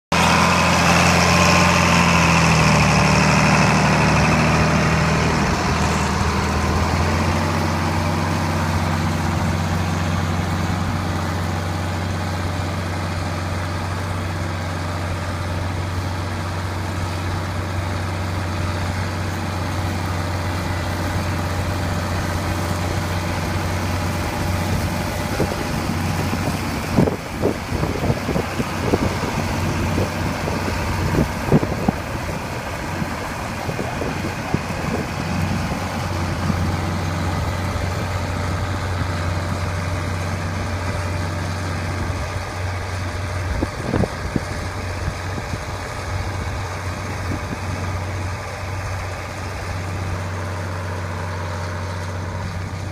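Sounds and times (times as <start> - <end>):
tractor engine under load: 0.1 - 52.9.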